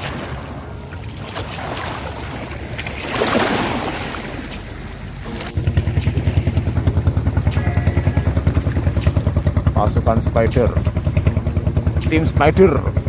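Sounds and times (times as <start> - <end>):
boat engine chugging: 0.0 - 13.0
sea water sloshing: 0.0 - 13.0.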